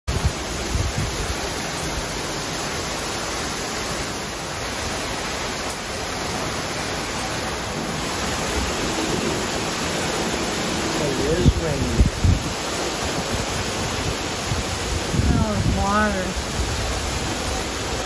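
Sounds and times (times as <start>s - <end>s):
heavy rain pouring: 0.1s - 18.0s.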